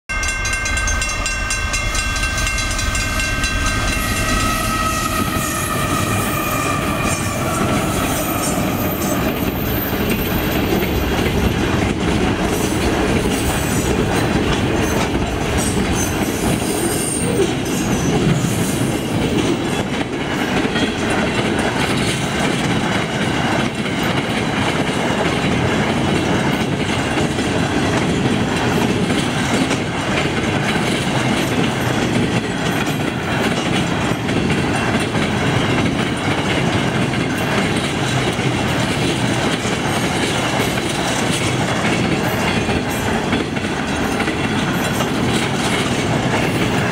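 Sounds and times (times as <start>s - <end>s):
diesel locomotive drone: 0.1s - 46.9s
train wagons clattering over rails: 0.1s - 46.9s.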